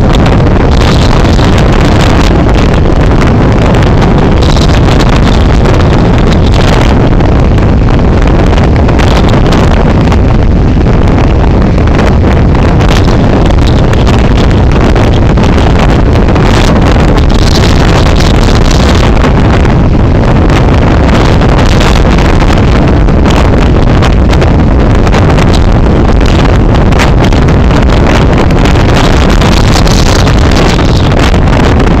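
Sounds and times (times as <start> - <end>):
storm wind on microphone: 0.0 - 32.0.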